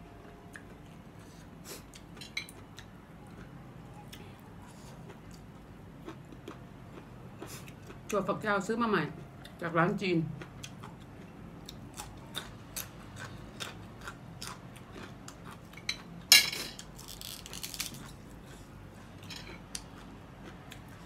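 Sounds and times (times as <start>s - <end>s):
crunching and chewing raw bean: 0.0s - 8.3s, 10.3s - 21.0s.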